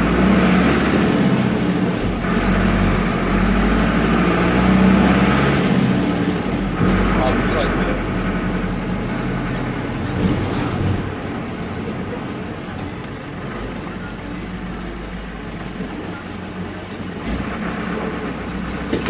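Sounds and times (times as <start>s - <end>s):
diesel engine running: 0.0s - 19.0s
road noise: 0.0s - 19.0s.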